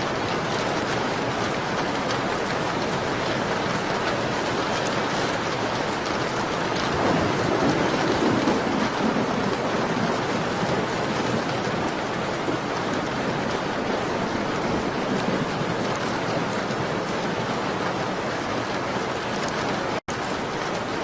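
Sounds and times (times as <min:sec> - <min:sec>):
rain pattering on window glass: 0:00.1 - 0:21.0.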